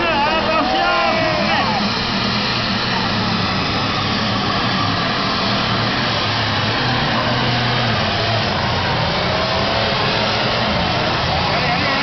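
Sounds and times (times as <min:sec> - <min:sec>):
tractor engine running flat out: 0:00.0 - 0:12.0.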